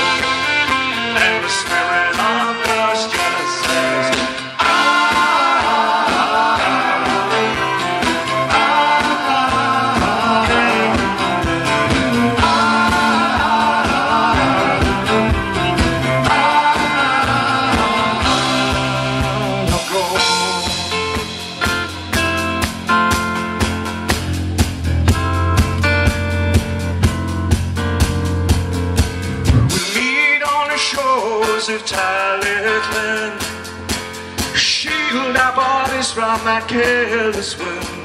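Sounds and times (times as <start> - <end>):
folk-rock band playing: 0.0 - 38.0.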